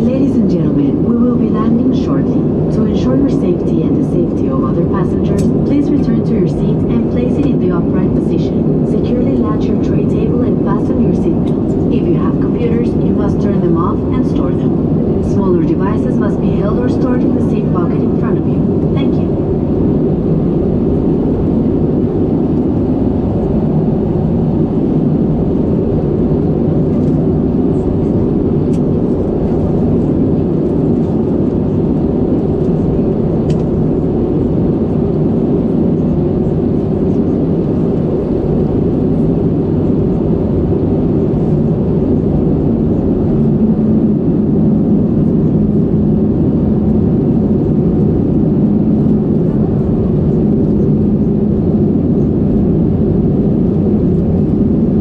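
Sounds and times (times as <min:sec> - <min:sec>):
airplane cabin engine roar: 0:00.0 - 0:55.0.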